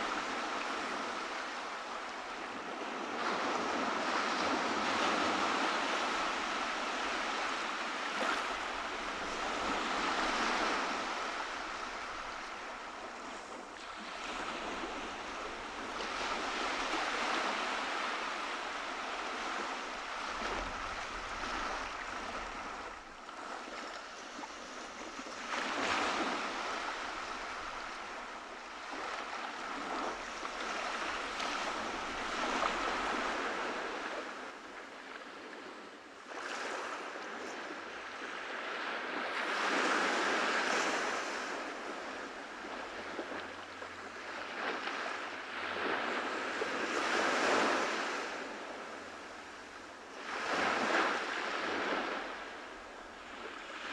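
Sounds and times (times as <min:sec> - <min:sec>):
waves breaking on a beach: 0:00.0 - 0:53.9.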